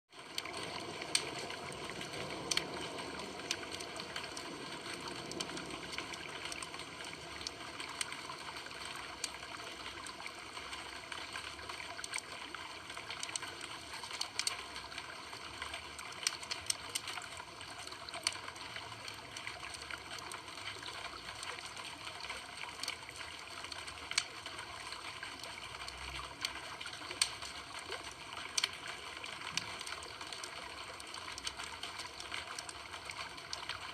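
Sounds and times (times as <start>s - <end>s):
campfire crackling and popping: 0.2s - 18.4s, 22.6s - 33.9s.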